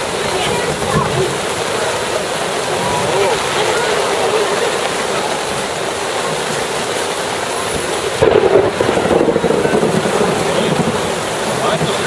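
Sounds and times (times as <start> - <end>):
heavy rain on lake: 0.0 - 12.0.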